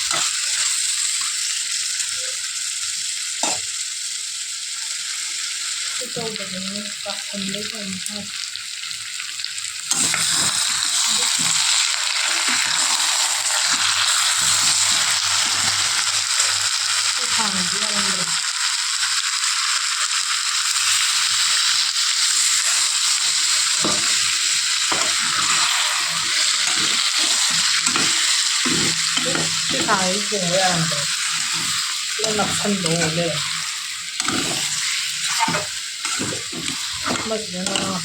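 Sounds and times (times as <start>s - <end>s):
food sizzling in hot oil: 0.0s - 38.0s.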